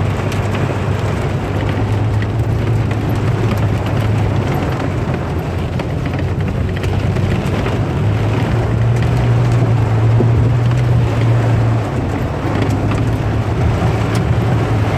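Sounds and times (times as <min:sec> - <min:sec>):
continuous rushing noise: 0:00.0 - 0:14.9
vehicle engine droning: 0:00.0 - 0:14.9.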